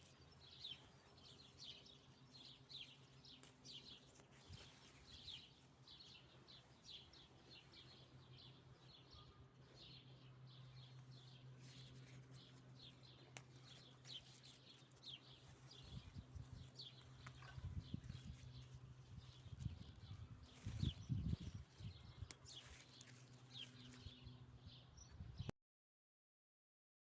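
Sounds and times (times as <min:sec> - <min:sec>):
small birds chirping: 0:00.0 - 0:25.5.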